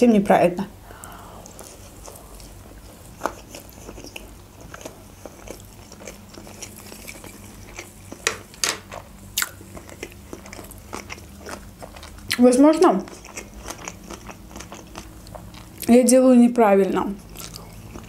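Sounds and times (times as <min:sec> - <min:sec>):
close chewing mouth sounds: 0:01.0 - 0:08.3, 0:09.0 - 0:16.0, 0:17.2 - 0:18.0.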